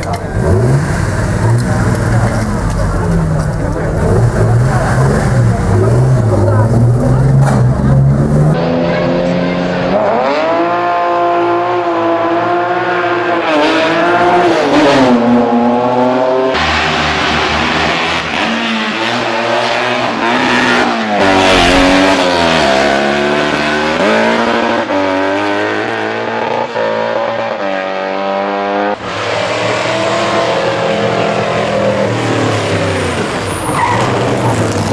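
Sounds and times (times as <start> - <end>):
racing car engines revving: 0.0 - 34.9.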